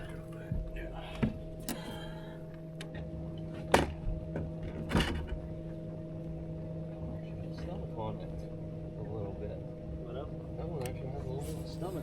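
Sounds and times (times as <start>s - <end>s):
boat machine hum: 0.0s - 12.0s.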